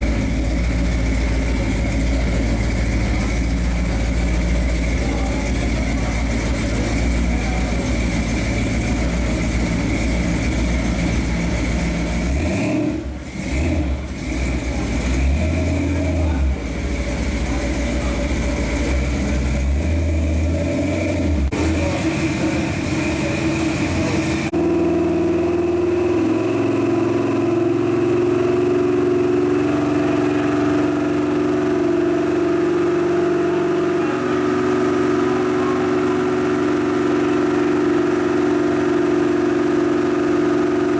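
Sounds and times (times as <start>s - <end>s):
pickup truck engine running: 0.0s - 40.9s.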